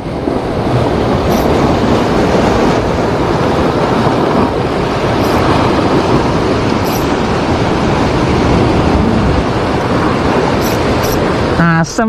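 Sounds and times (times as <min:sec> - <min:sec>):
heavy surf rushing: 0:00.0 - 0:12.0.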